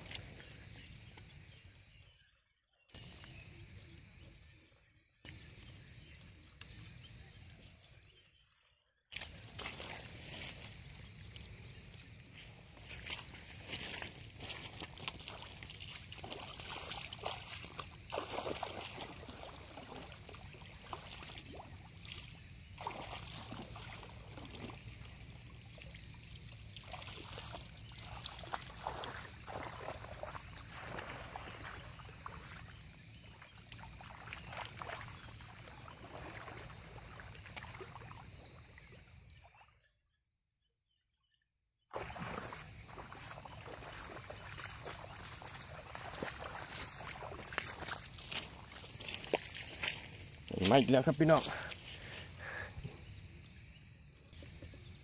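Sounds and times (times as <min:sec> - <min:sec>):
water sloshing and splashing: 0:00.0 - 0:01.9, 0:08.5 - 0:40.0, 0:41.9 - 0:53.6.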